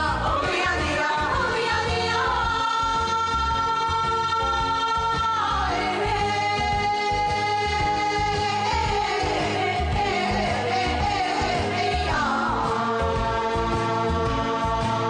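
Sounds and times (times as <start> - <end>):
pop band accompaniment: 0.0 - 15.0.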